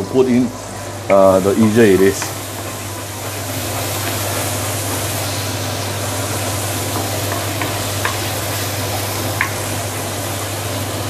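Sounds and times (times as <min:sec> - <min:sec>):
chili paste sizzling in oil: 0:00.0 - 0:11.0
steady low hum: 0:00.0 - 0:11.0.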